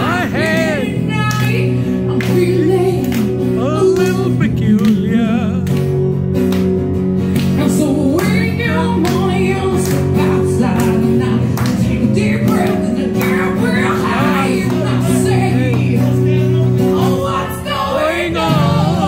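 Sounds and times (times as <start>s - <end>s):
woman singing into a microphone: 0.0s - 4.5s, 7.4s - 19.0s
acoustic guitar: 0.0s - 19.0s.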